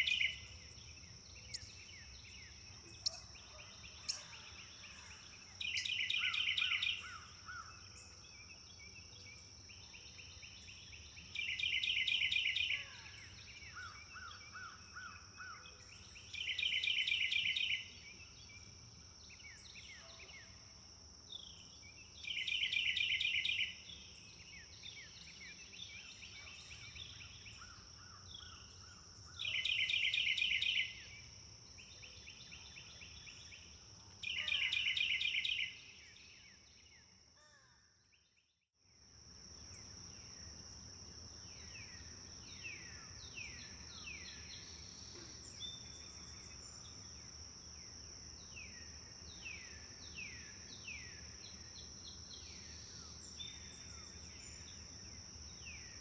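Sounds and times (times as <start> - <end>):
steady high-pitched hiss: 0.0 - 37.4, 38.9 - 56.0
quiet bird chirps: 0.0 - 38.6, 39.4 - 56.0.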